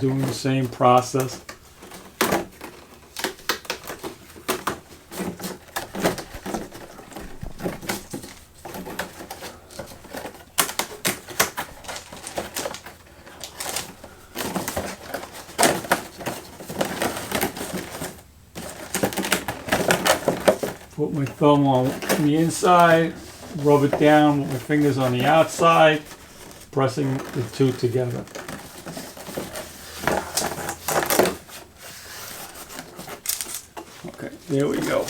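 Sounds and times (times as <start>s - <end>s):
cardboard clicks and crackles: 0.0s - 35.0s
fingers rubbing cardboard: 0.0s - 35.0s.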